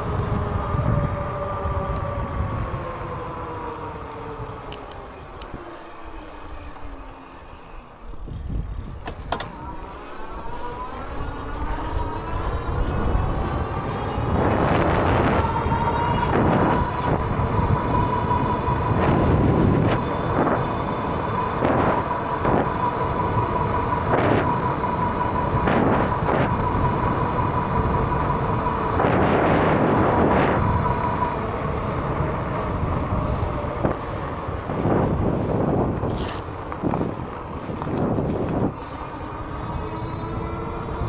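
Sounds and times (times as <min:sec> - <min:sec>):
wind buffeting microphone: 0:00.0 - 0:05.7, 0:08.0 - 0:09.9, 0:10.6 - 0:41.0
electric bike motor whine: 0:00.0 - 0:41.0.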